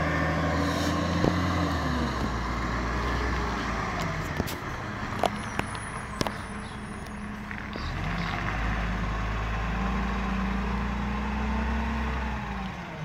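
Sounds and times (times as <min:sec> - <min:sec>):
garbage truck diesel engine: 0:00.0 - 0:13.0.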